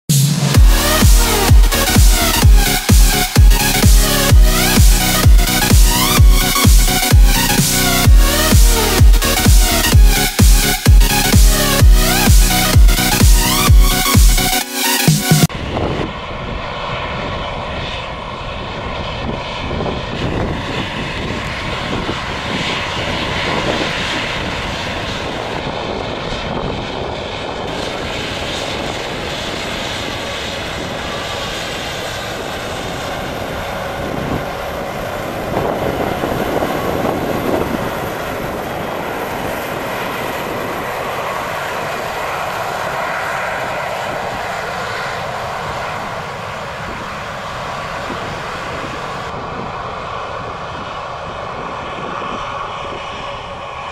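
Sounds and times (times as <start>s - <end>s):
jet engines rushing: 0.1s - 53.9s.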